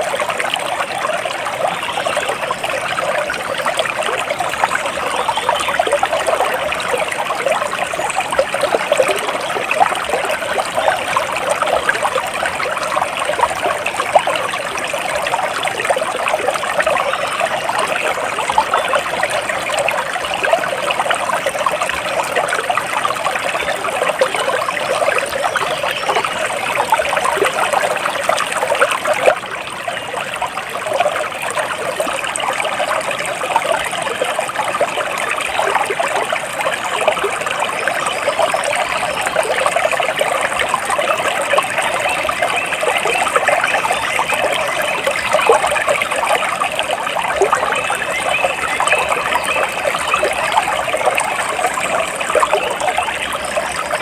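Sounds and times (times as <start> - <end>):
water trickling in a stream: 0.0 - 54.0.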